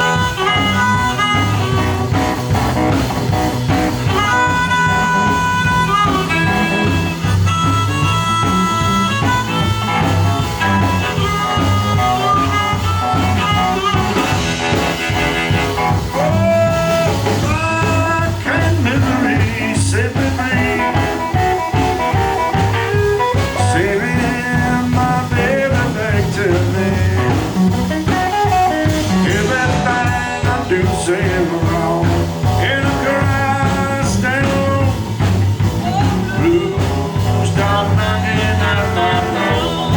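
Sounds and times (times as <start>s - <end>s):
live blues band playing: 0.0s - 39.9s
steady bass line: 0.0s - 39.9s.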